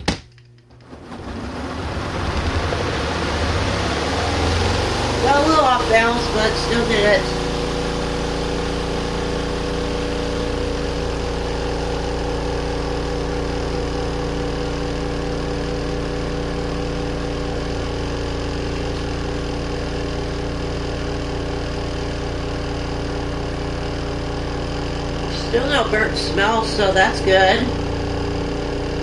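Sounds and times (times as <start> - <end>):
spin dryer spinning: 0.0 - 29.0.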